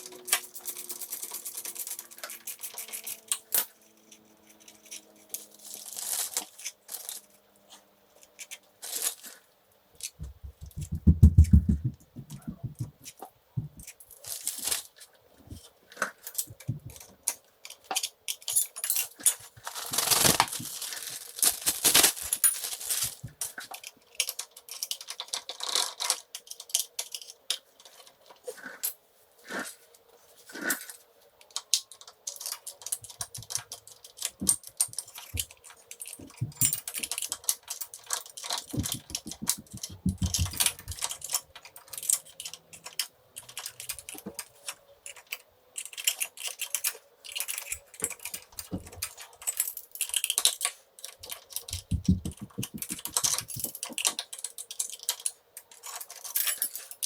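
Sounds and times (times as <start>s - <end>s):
small metal parts clinking: 0.0s - 7.4s, 13.8s - 29.0s, 30.5s - 57.0s.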